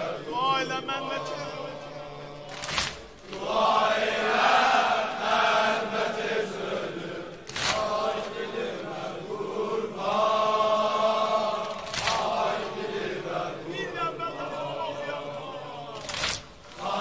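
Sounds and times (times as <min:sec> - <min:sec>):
mourners chanting in unison: 0:00.0 - 0:17.0.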